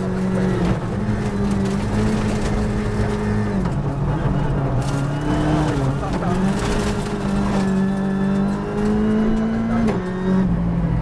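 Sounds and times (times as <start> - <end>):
tyres on gravel: 0.0 - 9.9
rally car engine: 0.0 - 11.0.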